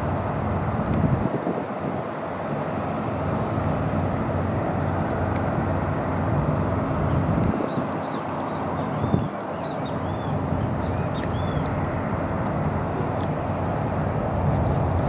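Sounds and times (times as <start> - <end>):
distant jet rumble: 0.0 - 15.0.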